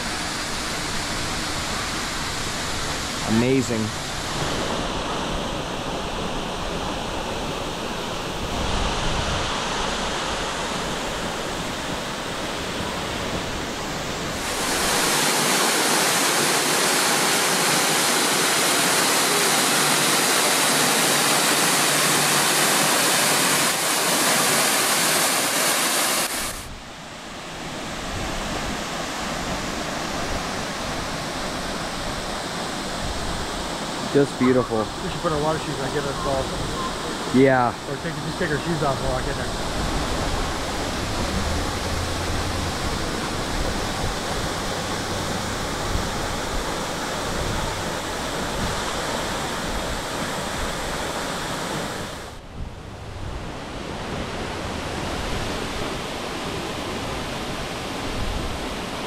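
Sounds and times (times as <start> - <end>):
waterfall rushing: 0.0 - 26.7, 27.4 - 52.4.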